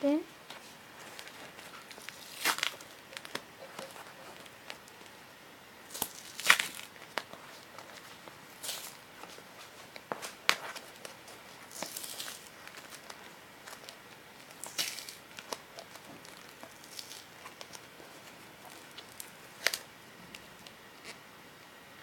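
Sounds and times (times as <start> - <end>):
packaging tearing and crinkling: 1.1 - 5.1, 5.9 - 20.7.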